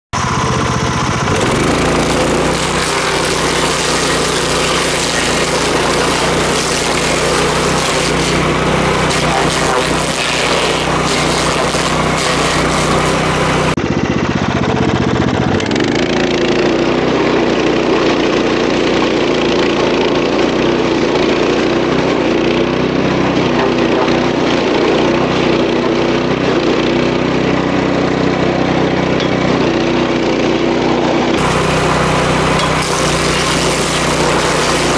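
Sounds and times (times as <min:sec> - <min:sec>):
stump grinder running: 0:00.1 - 0:34.9.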